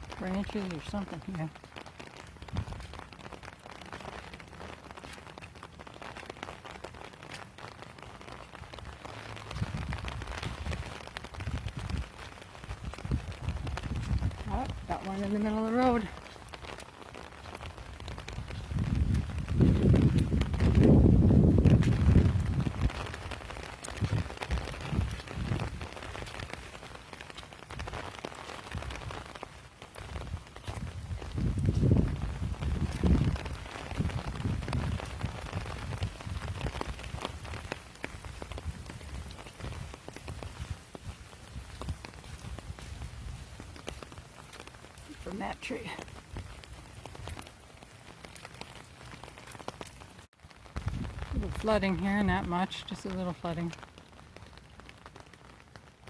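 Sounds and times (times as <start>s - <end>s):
light rain pattering: 0.0s - 56.0s
footsteps walking: 1.5s - 51.1s.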